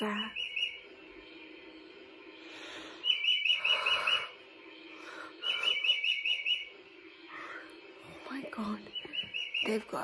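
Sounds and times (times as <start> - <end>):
recorded bird chirps: 0.0 - 10.0.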